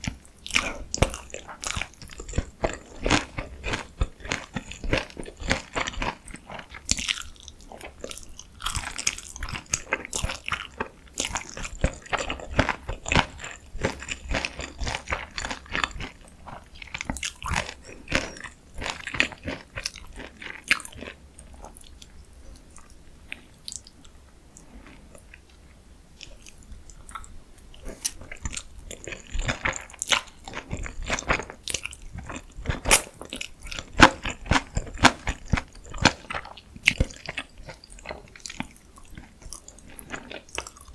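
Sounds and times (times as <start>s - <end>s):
chewing crisp fried food: 0.0s - 40.9s.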